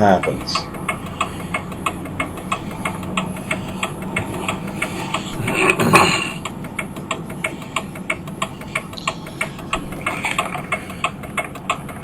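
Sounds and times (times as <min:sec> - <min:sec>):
tractor engine clattering: 0:00.0 - 0:12.0
vehicle passing: 0:00.0 - 0:12.0.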